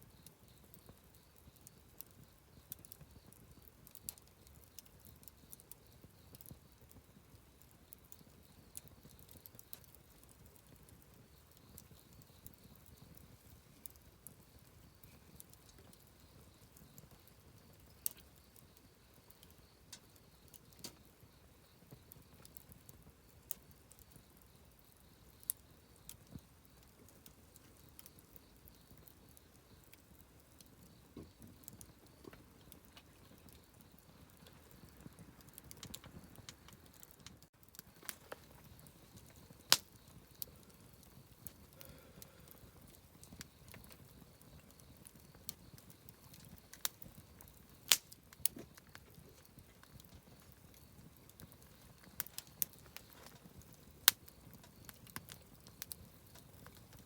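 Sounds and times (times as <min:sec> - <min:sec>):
campfire pops and ticks: 0:00.0 - 0:57.0.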